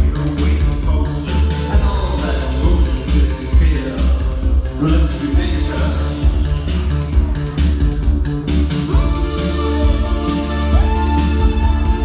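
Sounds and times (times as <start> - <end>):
live synth-pop band playing: 0.0 - 12.0
pulsing bass line: 0.0 - 12.0.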